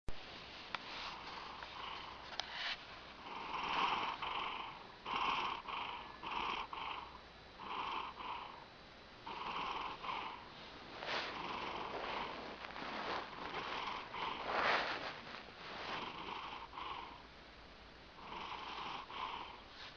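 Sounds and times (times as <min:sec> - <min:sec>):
cat snoring: 0:01.0 - 0:17.3, 0:18.2 - 0:19.9.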